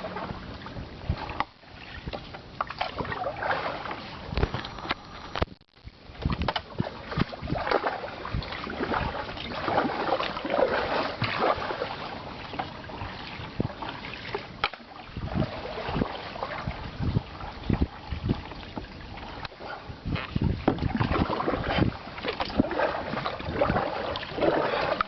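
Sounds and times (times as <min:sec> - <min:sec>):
paddle splashing in water: 0:00.0 - 0:05.0, 0:06.2 - 0:25.0.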